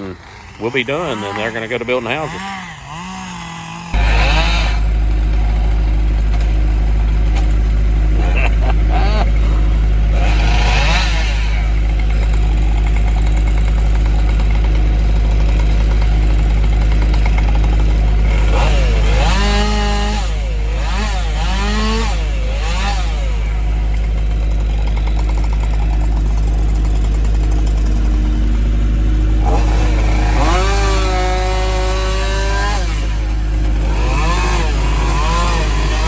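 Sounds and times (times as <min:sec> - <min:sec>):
chainsaw revving: 0:00.0 - 0:36.0
diesel engine running: 0:00.0 - 0:36.0.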